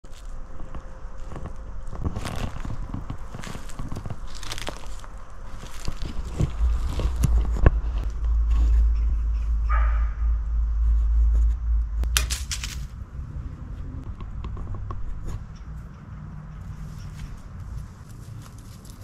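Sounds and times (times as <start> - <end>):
low rumble on microphone: 0.0 - 19.0.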